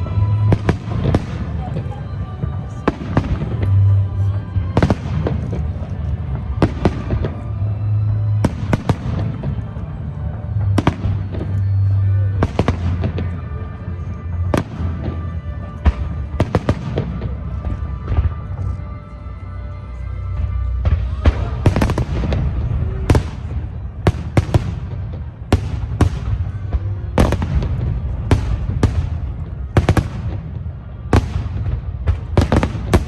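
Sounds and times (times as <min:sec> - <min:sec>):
fireworks exploding: 0:00.0 - 0:18.8, 0:20.4 - 0:33.0
music playing: 0:00.0 - 0:33.0.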